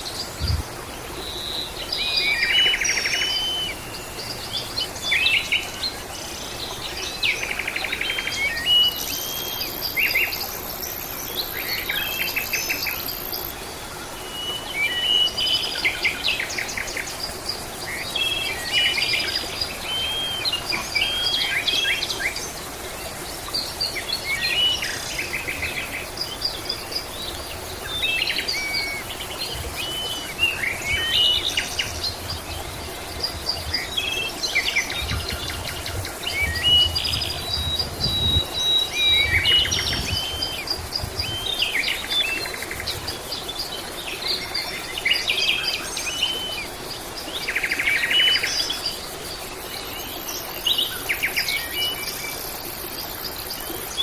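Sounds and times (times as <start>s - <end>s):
faint high insect hum: 0.0s - 54.0s
songbirds singing: 0.0s - 54.0s.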